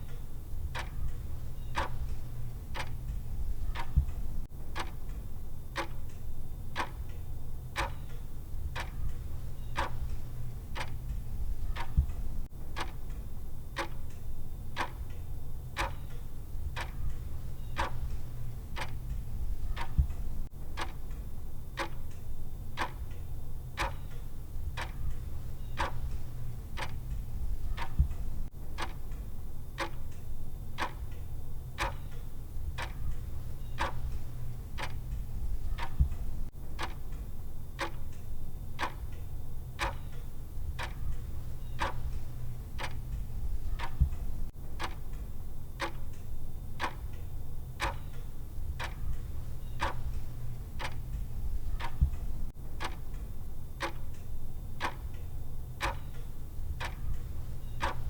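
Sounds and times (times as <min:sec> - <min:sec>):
clock ticking: 0:00.0 - 0:58.0
low steady hum: 0:00.0 - 0:58.0.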